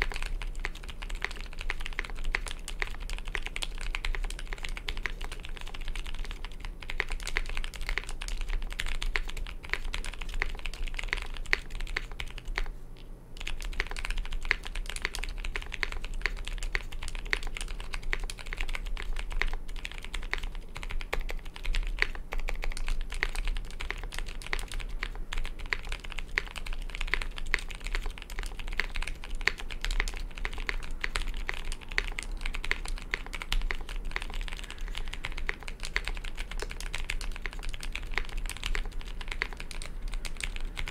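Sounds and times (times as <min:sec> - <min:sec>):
mechanical keyboard typing: 0:00.0 - 0:12.7, 0:13.4 - 0:40.9.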